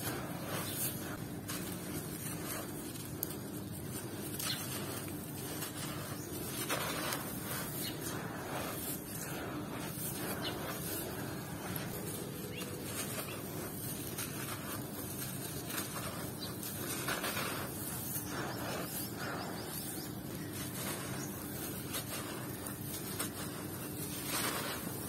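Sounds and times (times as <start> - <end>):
grains trickling through fingers: 0.0 - 25.0
hands crushing dry sand: 0.0 - 25.0.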